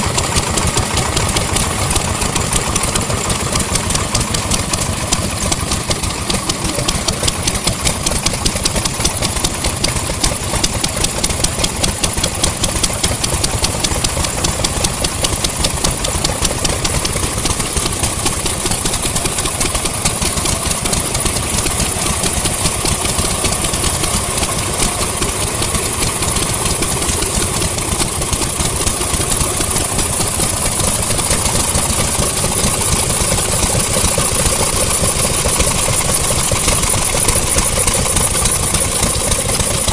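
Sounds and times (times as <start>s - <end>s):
vintage engines running: 0.0s - 39.9s.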